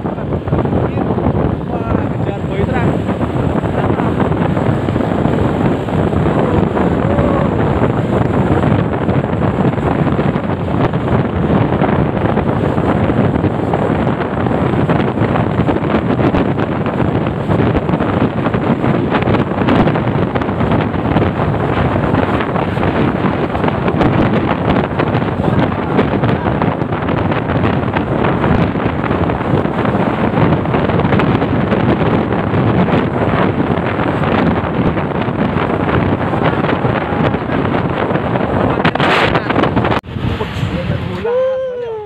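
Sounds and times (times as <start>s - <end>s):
road noise: 0.0s - 42.0s
wind rushing over microphone: 0.0s - 42.0s.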